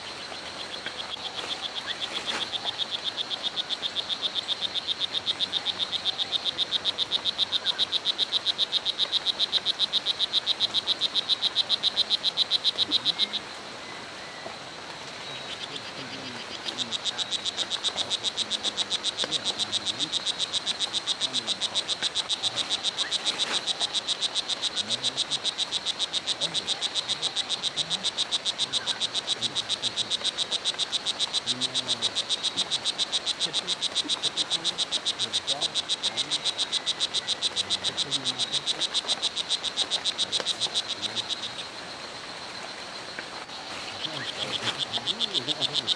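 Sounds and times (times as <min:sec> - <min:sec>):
frog chirping: 0:00.0 - 0:45.9.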